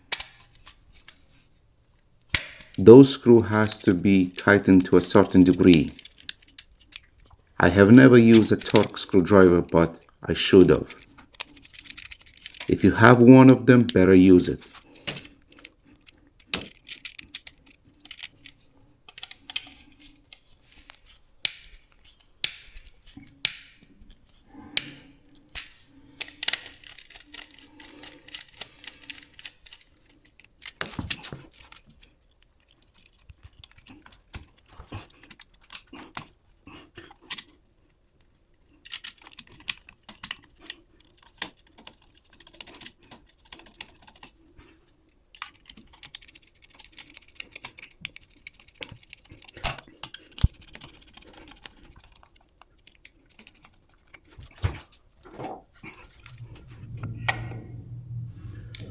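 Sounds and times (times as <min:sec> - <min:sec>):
plastic parts handled: 0:00.1 - 0:12.8, 0:13.8 - 0:23.4, 0:24.1 - 0:36.4, 0:37.2 - 0:56.4.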